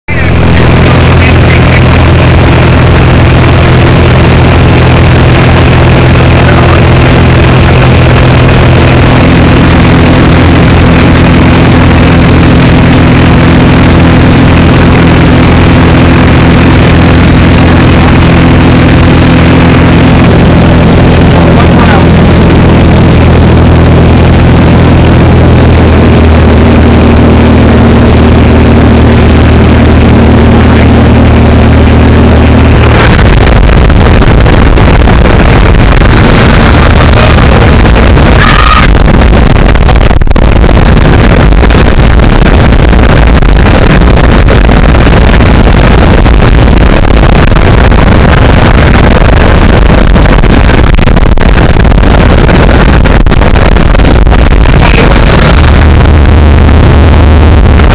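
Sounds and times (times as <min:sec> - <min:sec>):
loud rushing noise: 0:00.0 - 0:57.9
propeller plane engine droning: 0:00.0 - 0:57.9.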